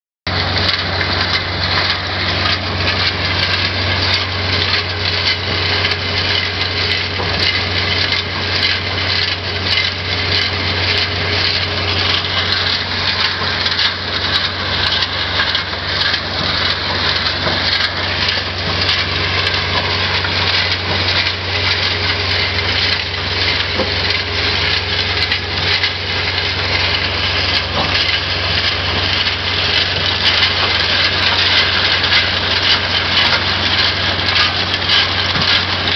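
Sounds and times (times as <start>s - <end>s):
engine droning: 0.3s - 35.9s
rubble clattering in rotating drum: 0.3s - 35.9s.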